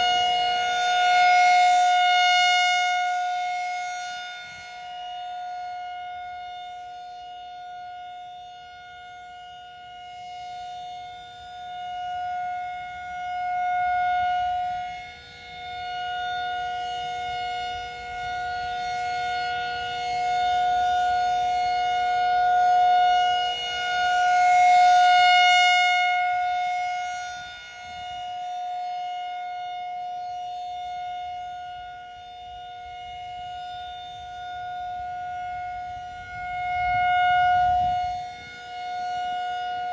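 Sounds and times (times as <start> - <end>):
rotating tornado siren steady tone: 0.0 - 39.9.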